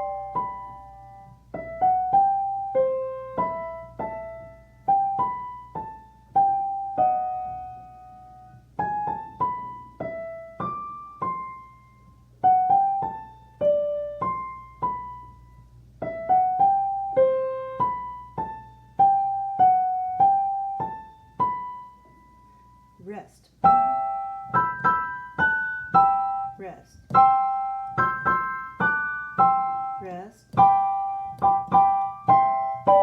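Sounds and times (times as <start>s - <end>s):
high piano melody: 0.0s - 33.0s.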